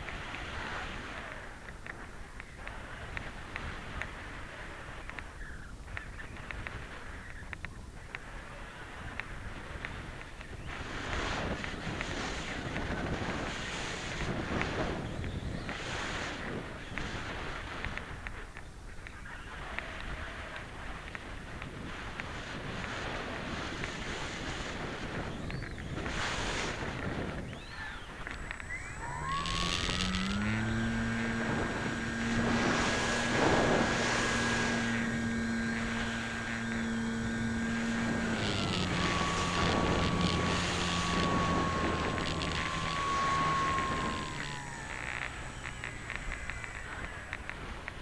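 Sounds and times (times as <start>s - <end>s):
wind rushing over microphone: 0.0s - 18.5s, 19.2s - 48.0s
electric motor and propeller whine: 0.0s - 48.0s.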